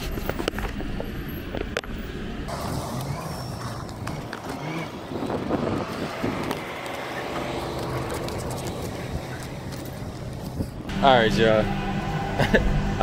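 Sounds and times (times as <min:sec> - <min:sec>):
diesel trucks idling: 0:02.3 - 0:13.0.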